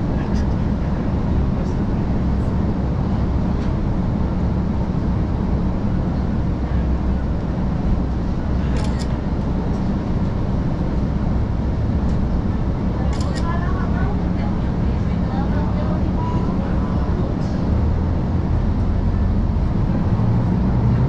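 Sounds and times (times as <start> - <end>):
train engine drone: 0.0 - 21.0.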